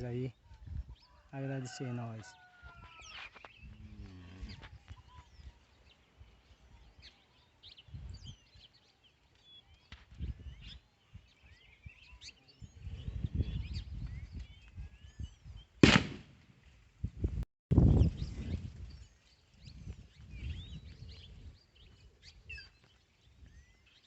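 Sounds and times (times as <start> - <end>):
small birds chirping: 2.3 - 15.8, 17.8 - 24.0.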